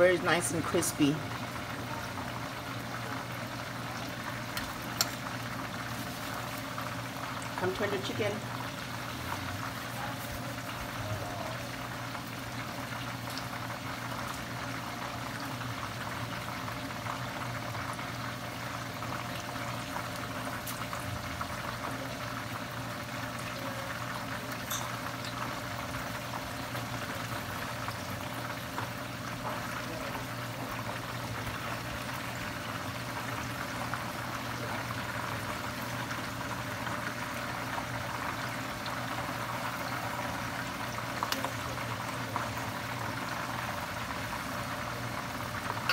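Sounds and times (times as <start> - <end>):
chicken deep-frying in oil: 0.0 - 45.9.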